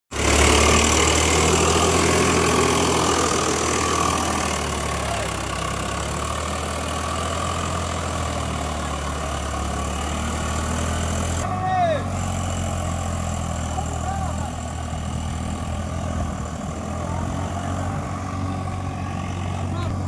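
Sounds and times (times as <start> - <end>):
tractor engine running: 0.1 - 20.0.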